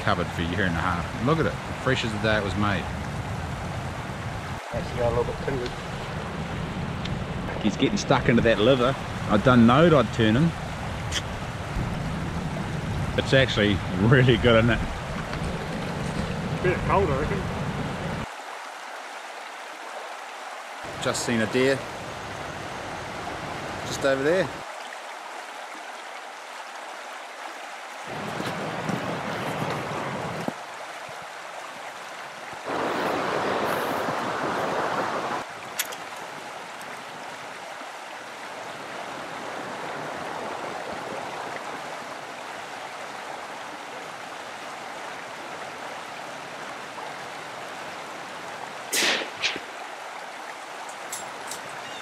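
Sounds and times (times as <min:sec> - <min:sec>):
river flowing over stones: 0:00.0 - 0:52.0.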